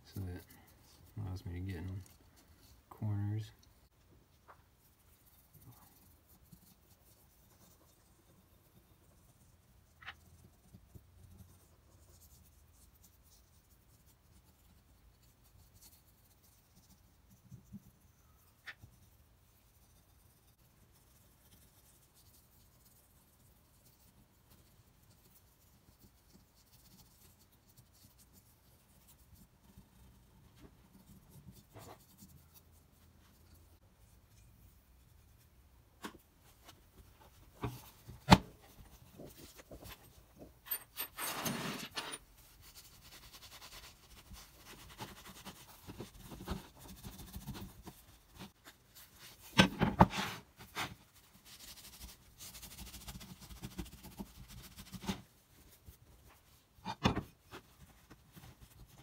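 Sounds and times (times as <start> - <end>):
cotton swab scratchy rubbing: 4.3 - 40.2, 42.2 - 59.0.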